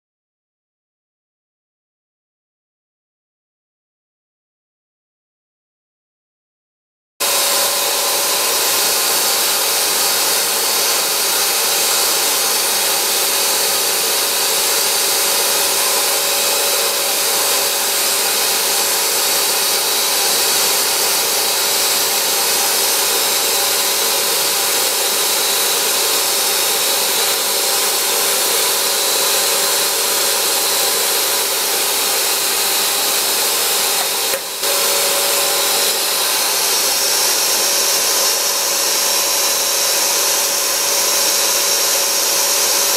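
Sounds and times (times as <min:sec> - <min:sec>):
milling machine cutting metal: 0:07.2 - 0:42.9.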